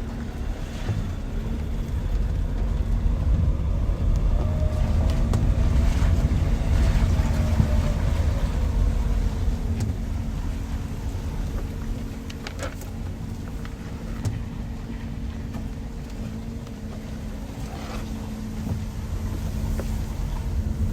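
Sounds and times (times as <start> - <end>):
vehicle engine rumbling: 0.0 - 20.9.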